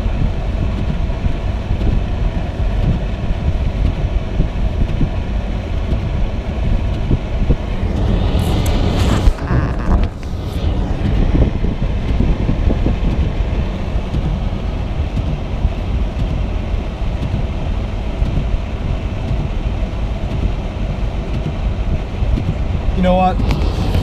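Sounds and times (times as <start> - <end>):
car interior engine and road noise: 0.0 - 24.0.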